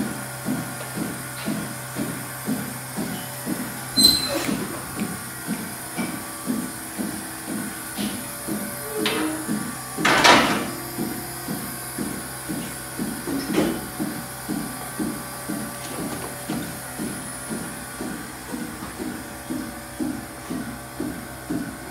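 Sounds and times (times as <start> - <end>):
milking equipment pulsing: 0.0 - 21.9.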